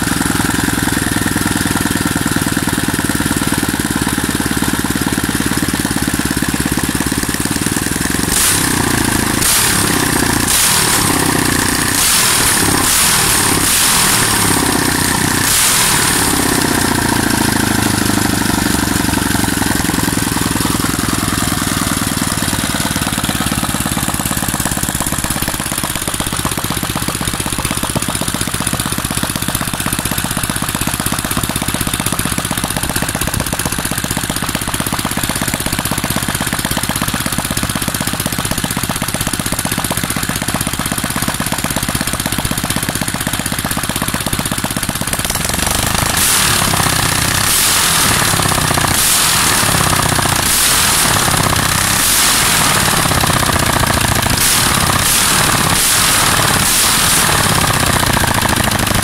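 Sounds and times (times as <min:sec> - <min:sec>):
small engine idling and revving: 0:00.0 - 0:59.0.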